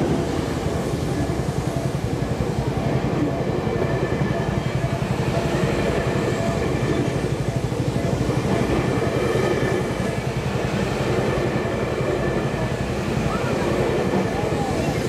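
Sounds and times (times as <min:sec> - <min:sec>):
train wheels rumbling over rails: 0:00.0 - 0:15.0.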